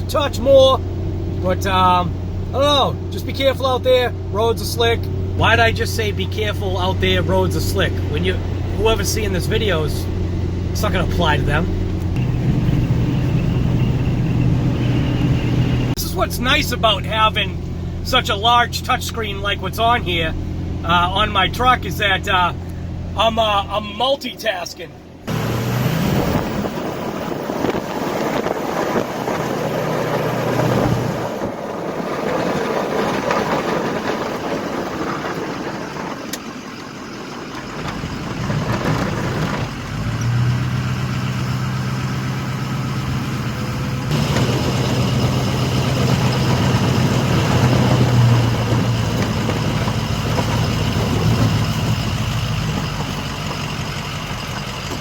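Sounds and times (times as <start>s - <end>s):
road and cab noise: 0.0s - 55.0s
truck engine drone: 0.0s - 55.0s.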